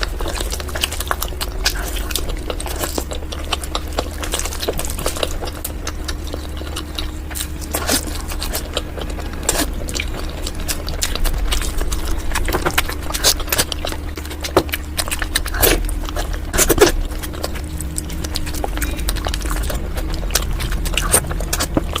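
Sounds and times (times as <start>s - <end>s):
chewing and mouth sounds: 0.0s - 22.0s
steady low hum: 0.0s - 22.0s.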